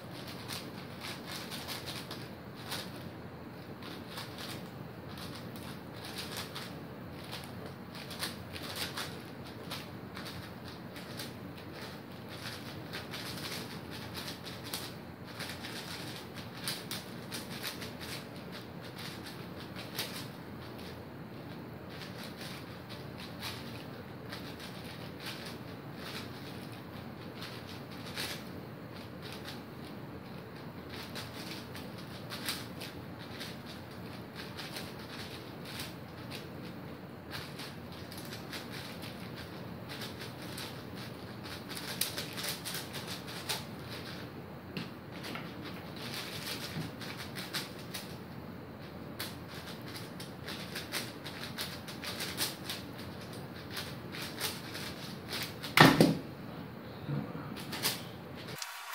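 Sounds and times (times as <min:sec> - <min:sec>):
speed cube plastic clicking: 0:00.2 - 0:03.0, 0:03.8 - 0:21.0, 0:21.9 - 0:29.6, 0:30.9 - 0:36.4, 0:37.3 - 0:44.2, 0:46.0 - 0:48.2, 0:49.2 - 0:55.8.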